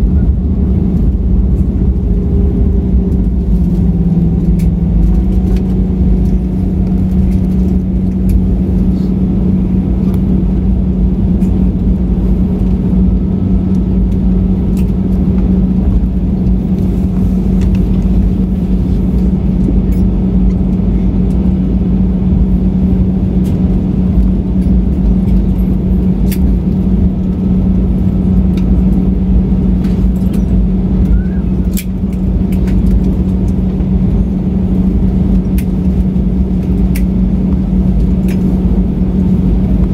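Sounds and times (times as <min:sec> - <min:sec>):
aircraft cabin drone: 0:00.0 - 0:39.9
deep rumble of engines and wheels: 0:00.0 - 0:39.9.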